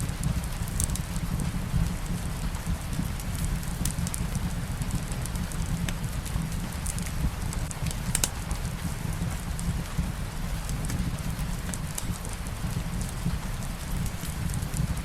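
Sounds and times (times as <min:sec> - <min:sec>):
rain falling: 0:00.0 - 0:15.0
wood fire crackling: 0:00.0 - 0:15.0.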